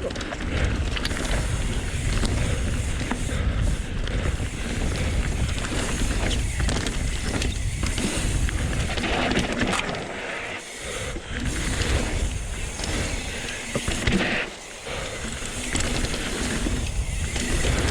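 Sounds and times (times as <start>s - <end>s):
wind noise on microphone: 0.0s - 10.0s, 10.9s - 14.3s, 15.1s - 17.9s
bike rattling over bumps: 0.0s - 17.9s
bike tyre rumble on dirt: 0.0s - 17.9s.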